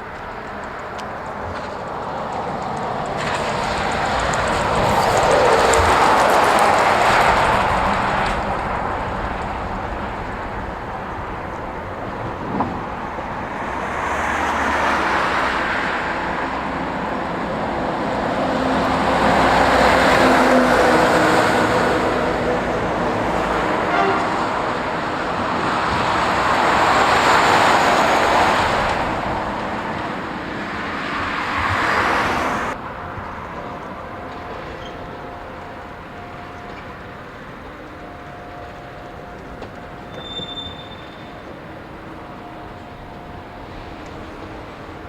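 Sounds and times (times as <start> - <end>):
vehicles passing: 0.0 - 36.3.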